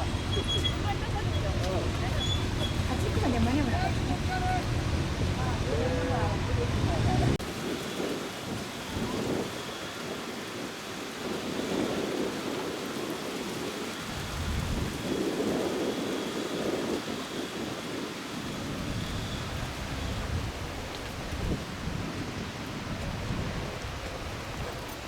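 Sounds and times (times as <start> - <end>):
water gushing and falling: 0.0 - 25.0.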